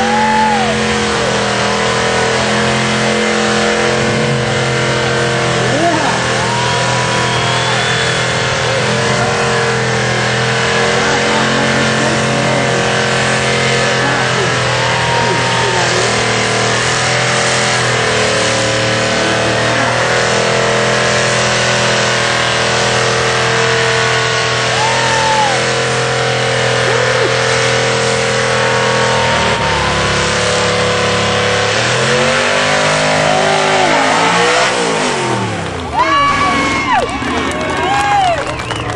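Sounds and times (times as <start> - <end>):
car engine revving high: 0.0 - 38.9.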